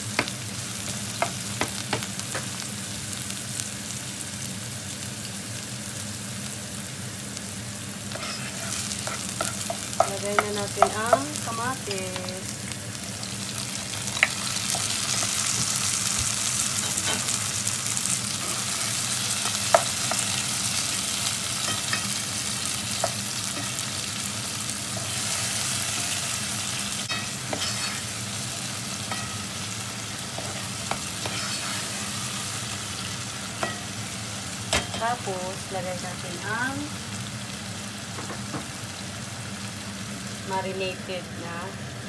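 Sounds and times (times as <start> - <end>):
tomatoes sizzling in hot oil: 0.0 - 42.0.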